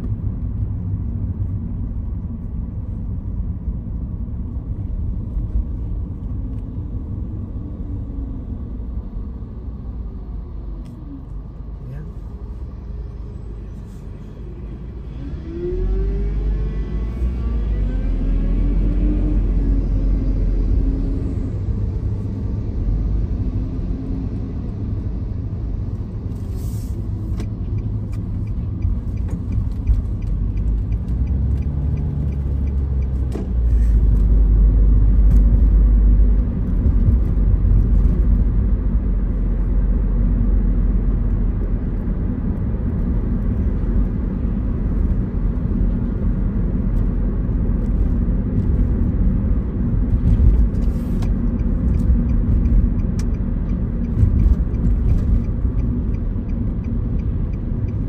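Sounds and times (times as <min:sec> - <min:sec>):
car driving in traffic: 0:00.0 - 0:58.0.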